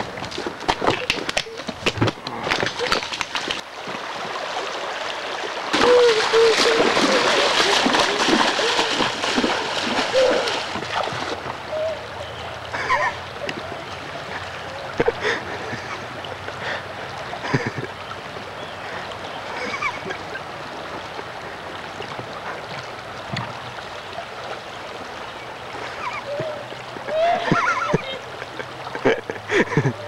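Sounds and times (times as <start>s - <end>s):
creek water running over stones: 0.0s - 30.0s
splashes of wading: 0.0s - 30.0s.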